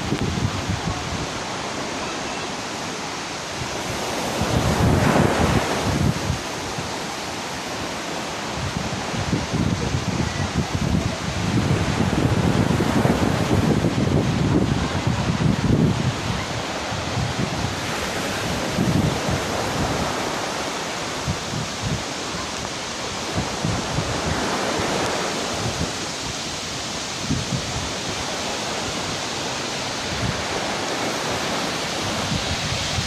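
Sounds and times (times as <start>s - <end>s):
waterfall rushing: 0.0s - 33.0s
wind gusts on microphone: 0.0s - 33.0s.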